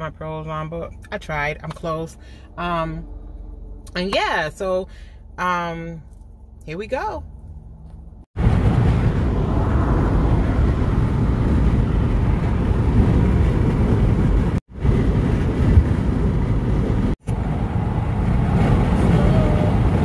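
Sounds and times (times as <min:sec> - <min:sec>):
road and wind noise inside car: 0:00.0 - 0:20.0.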